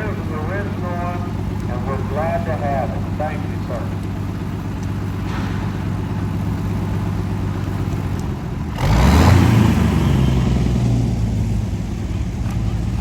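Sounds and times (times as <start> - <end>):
louder engine revving: 0.0 - 13.0
tractor engine running: 0.0 - 13.0.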